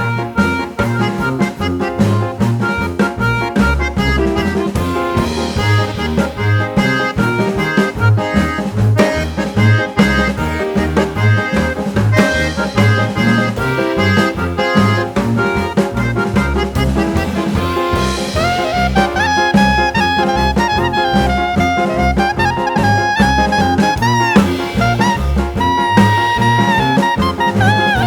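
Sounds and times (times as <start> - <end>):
bass line: 0.0 - 28.0
drums keeping a steady beat: 0.0 - 28.0.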